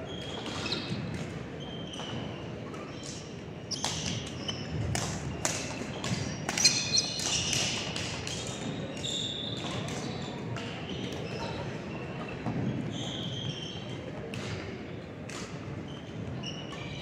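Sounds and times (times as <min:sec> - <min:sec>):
sneakers squeaking on court floor: 0:00.0 - 0:14.7, 0:15.3 - 0:17.0.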